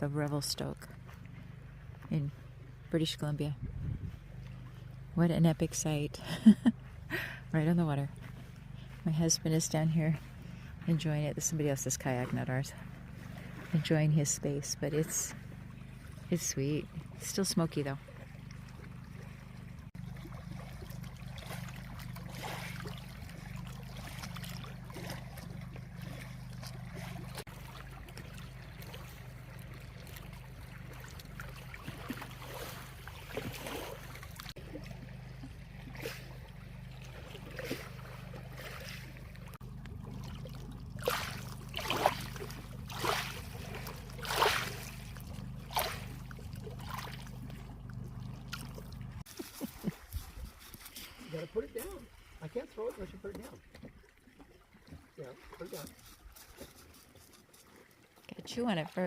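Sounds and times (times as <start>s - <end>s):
steady low hum: 0.0s - 51.2s
river water lapping and splashing: 0.0s - 59.0s.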